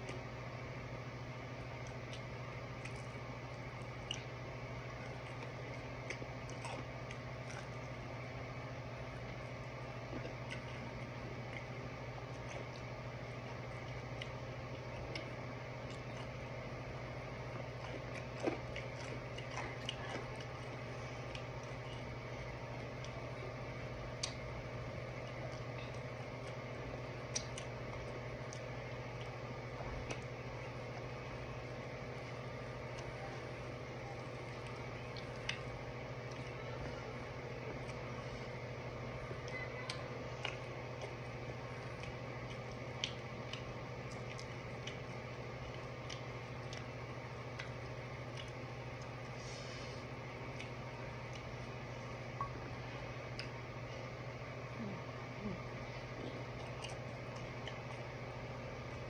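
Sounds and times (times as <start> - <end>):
steady low hum: 0.0 - 59.0
sticky clicks of chewing: 1.6 - 8.2, 9.0 - 16.6, 17.4 - 38.7, 39.3 - 49.4, 50.2 - 53.7, 56.0 - 59.0.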